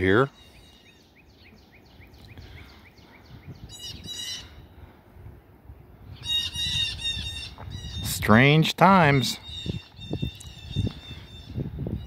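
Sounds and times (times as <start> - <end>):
harsh bird calls: 0.0 - 4.8, 6.1 - 12.0.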